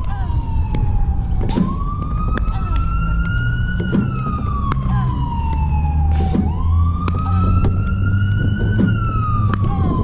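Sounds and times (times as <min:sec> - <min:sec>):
wailing siren: 0:00.0 - 0:10.0.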